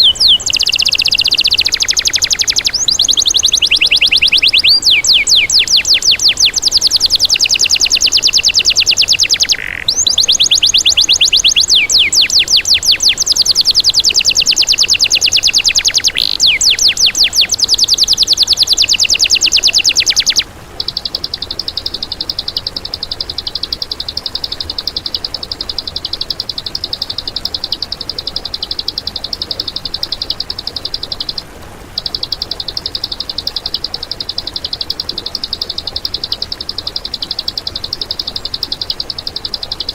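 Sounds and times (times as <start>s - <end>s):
bird buzzy trill: 0.0s - 39.9s
songbird rapid sweeping notes: 0.0s - 39.9s.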